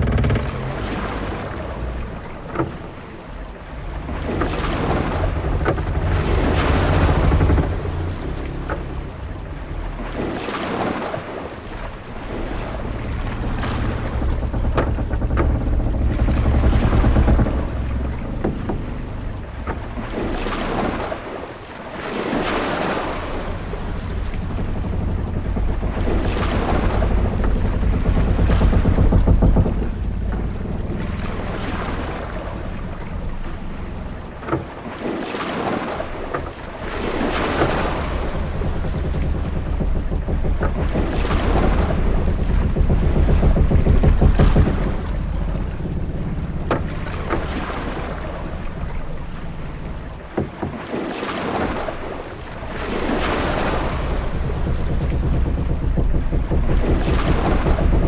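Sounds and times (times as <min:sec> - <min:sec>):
deep rumble: 0:00.0 - 0:58.0
waves washing against hull: 0:00.0 - 0:58.0
wind: 0:00.0 - 0:58.0.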